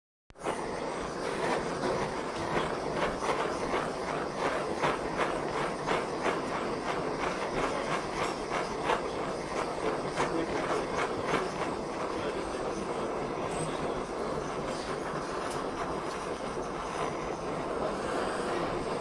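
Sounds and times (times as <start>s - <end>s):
blowtorch hissing: 0.4s - 19.0s.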